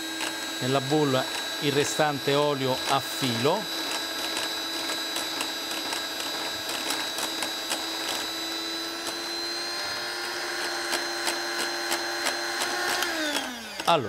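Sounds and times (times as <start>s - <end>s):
immersion blender motor whine: 0.0s - 14.0s.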